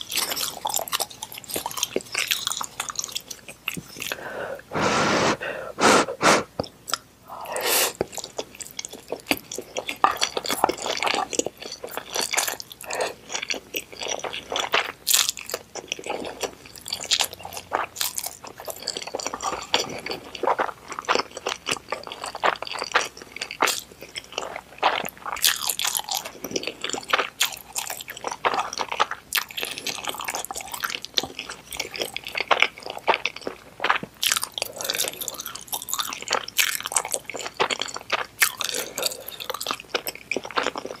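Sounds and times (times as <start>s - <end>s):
wet chewing of noodles: 0.0s - 41.0s.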